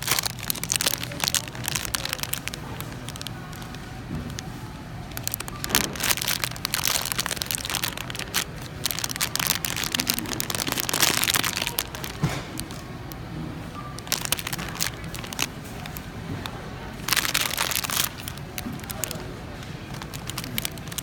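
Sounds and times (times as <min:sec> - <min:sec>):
plastic packaging crinkling: 0:00.0 - 0:13.2, 0:13.8 - 0:21.0.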